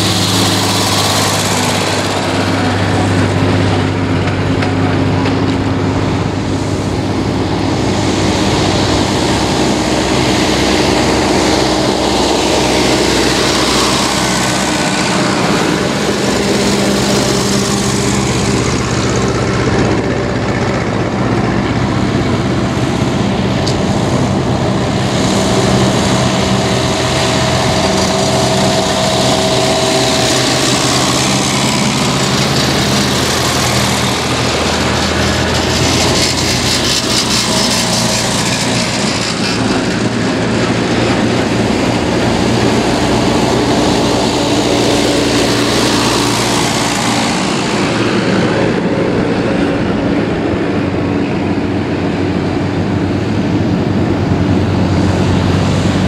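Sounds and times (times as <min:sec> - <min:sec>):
tractor engines driving past: 0:00.0 - 0:56.0.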